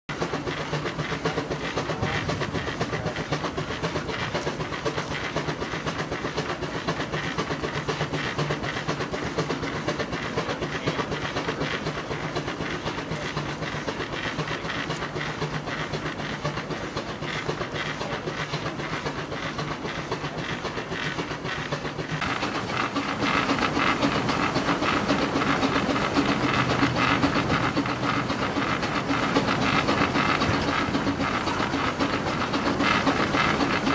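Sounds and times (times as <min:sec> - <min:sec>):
fan rushing: 0:00.1 - 0:33.9
running belt: 0:00.1 - 0:33.9
steam engine exhaust chuffing: 0:00.1 - 0:33.9
steam hissing: 0:00.1 - 0:33.9.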